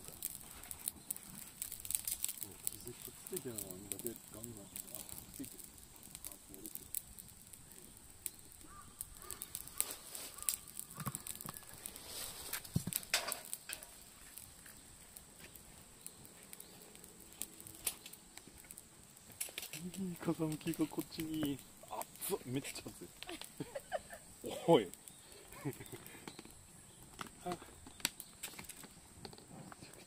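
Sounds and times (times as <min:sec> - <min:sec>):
cicadas droning: 0:00.0 - 0:30.0
faint chirps: 0:00.4 - 0:12.7, 0:13.5 - 0:30.0.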